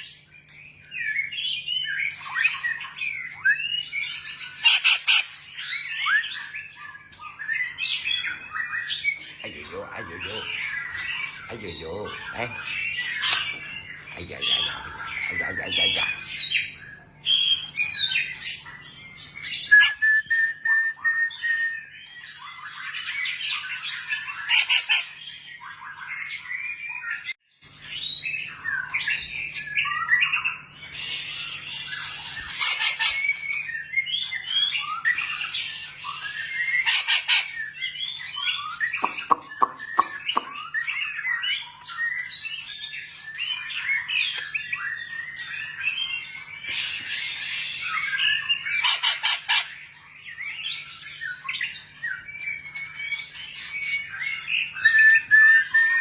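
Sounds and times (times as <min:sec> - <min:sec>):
bird singing whistles and chirps: 0:00.0 - 0:56.0.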